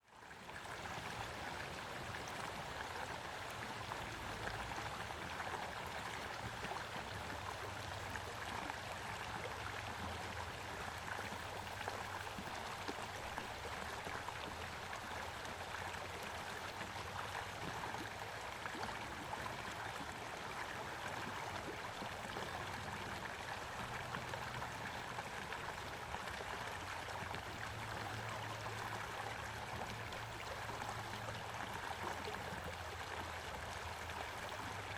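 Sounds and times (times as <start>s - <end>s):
stream babbling: 0.0s - 34.9s.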